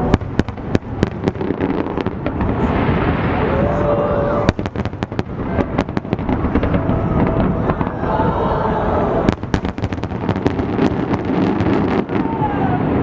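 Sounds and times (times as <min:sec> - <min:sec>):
fireworks bangs and crackles: 0:00.0 - 0:08.2, 0:08.9 - 0:13.0
low rumble: 0:00.0 - 0:11.1.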